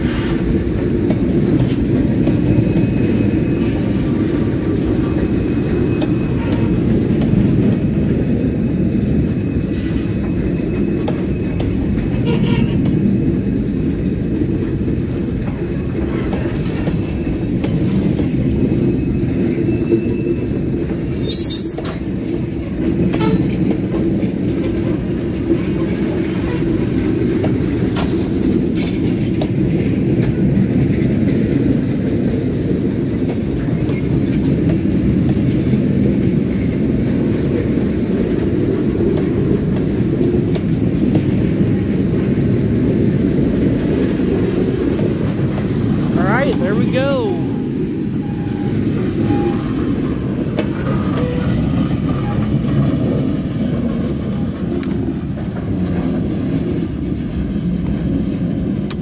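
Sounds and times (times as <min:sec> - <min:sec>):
train cars clanking: 0:00.0 - 0:59.0
train wheels rumbling on rail: 0:00.0 - 0:59.0.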